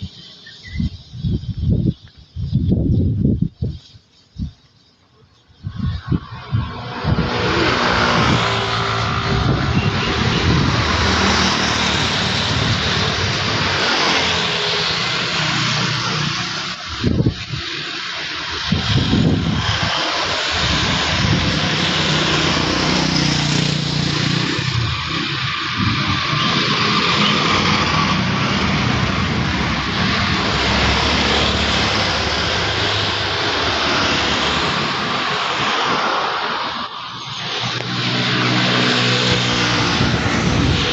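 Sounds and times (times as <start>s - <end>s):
wind buffeting microphone: 0.0s - 4.8s, 5.4s - 40.9s
heavy rain hiss: 6.9s - 40.9s.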